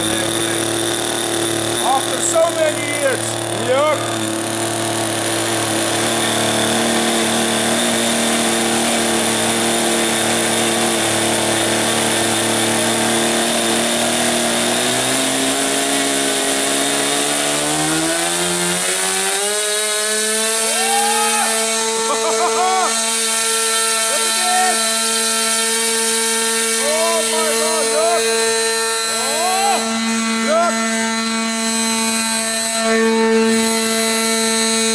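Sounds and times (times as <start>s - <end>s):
small two-stroke engine buzzing: 0.0s - 34.9s.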